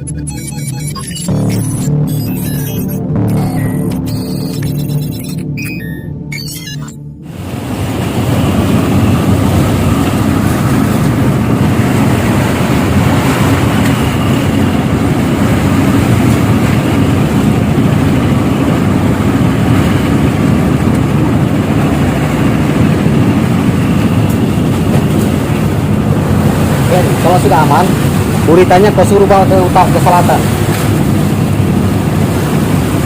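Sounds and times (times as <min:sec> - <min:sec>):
tugboat engine rumbling: 0:00.0 - 0:33.0.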